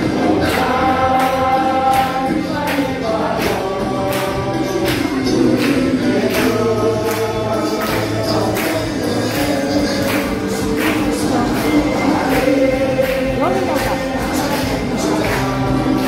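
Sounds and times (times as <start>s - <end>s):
group singing gospel song: 0.0s - 16.0s
hand claps: 0.1s - 16.0s.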